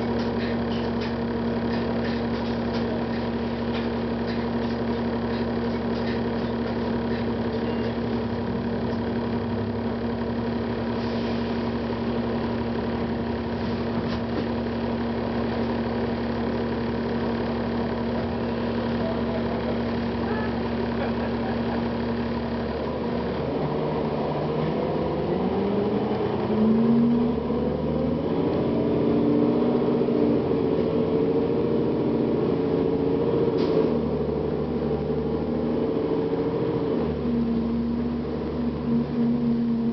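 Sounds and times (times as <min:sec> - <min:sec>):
bus diesel engine idling and revving: 0:00.0 - 0:39.9.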